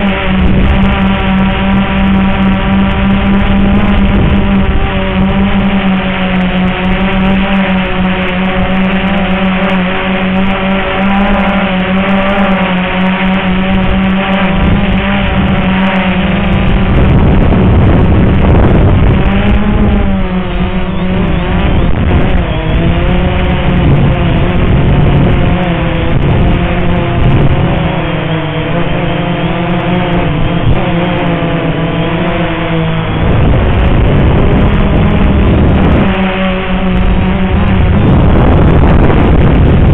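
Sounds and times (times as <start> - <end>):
wind buffeting microphone: 0.0 - 9.5, 13.3 - 39.9
quadcopter propellers buzzing: 0.0 - 39.9.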